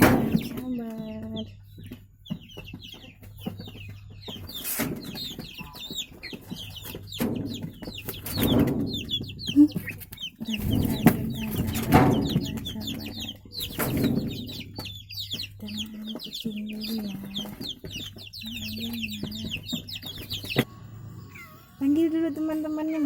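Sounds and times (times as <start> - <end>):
chickens clucking: 0.0 - 23.0
chicks peeping: 0.0 - 23.0.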